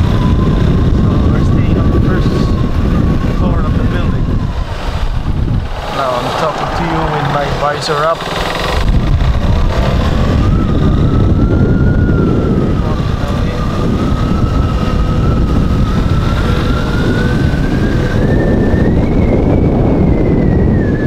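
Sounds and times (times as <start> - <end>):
motorcycle engine running: 0.0 - 20.8
thin whine: 0.0 - 21.0
wind buffeting microphone: 0.0 - 21.0.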